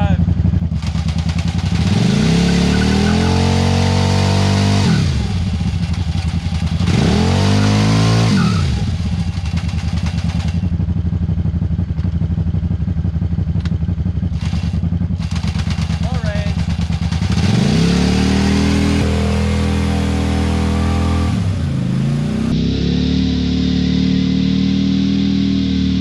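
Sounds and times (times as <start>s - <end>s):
engine revving and idling: 0.0s - 26.0s.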